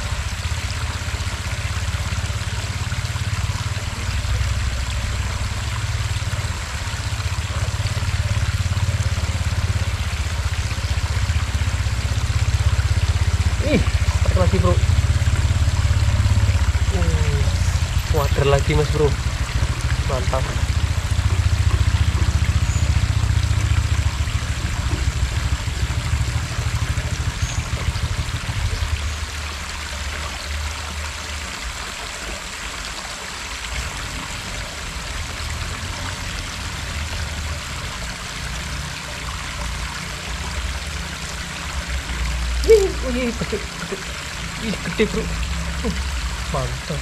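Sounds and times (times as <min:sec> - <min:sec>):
water rushing over a weir: 0:00.0 - 0:47.0.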